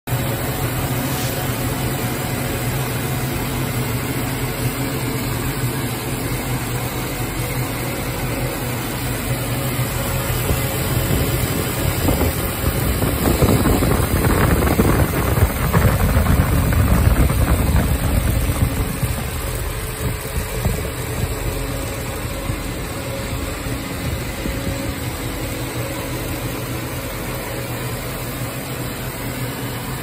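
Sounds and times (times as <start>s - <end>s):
motor hum: 3.5s - 30.0s.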